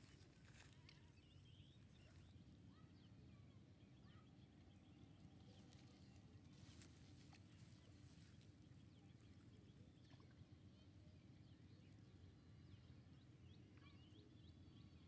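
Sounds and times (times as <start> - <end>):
faint bird chirps: 0.1 - 15.0.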